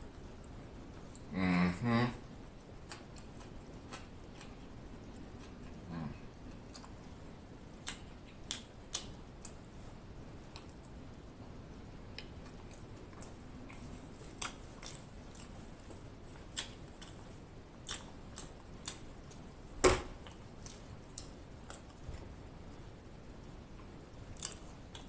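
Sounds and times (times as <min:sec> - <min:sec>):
person chewing food: 0:00.0 - 0:01.3, 0:02.4 - 0:09.8, 0:10.4 - 0:11.0, 0:12.1 - 0:22.9, 0:23.8 - 0:25.0.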